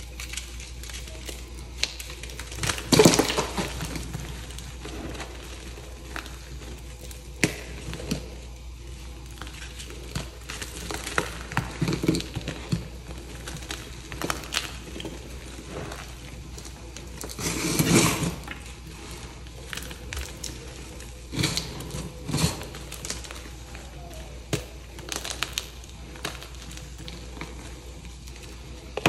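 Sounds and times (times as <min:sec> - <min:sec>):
hands crushing chalk blocks: 0:00.0 - 0:29.0.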